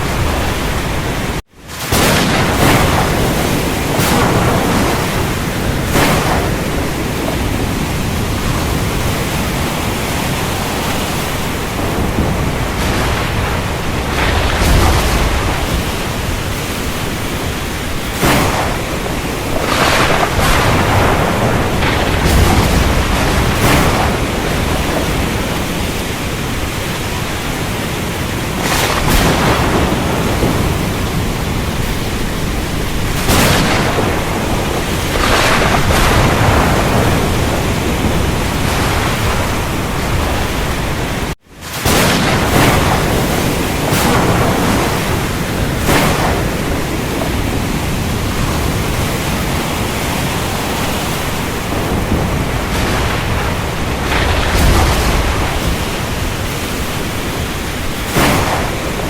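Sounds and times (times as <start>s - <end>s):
heavy rain hissing: 0.0s - 59.0s
thunder cracks: 0.0s - 59.0s.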